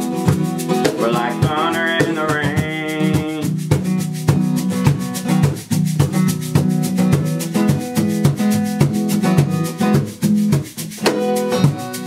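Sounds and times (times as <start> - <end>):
acoustic guitar strumming: 0.0 - 12.0
hand shaker: 0.0 - 12.0.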